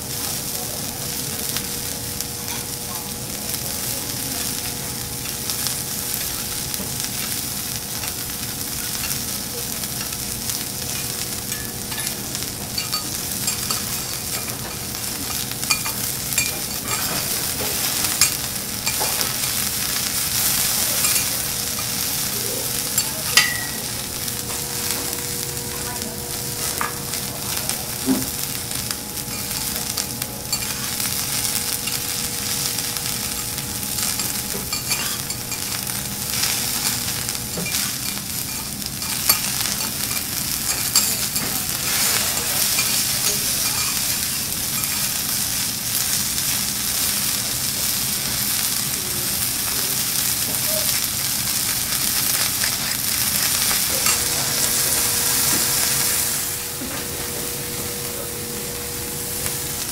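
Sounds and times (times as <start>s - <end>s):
food sizzling on a griddle: 0.0s - 59.9s.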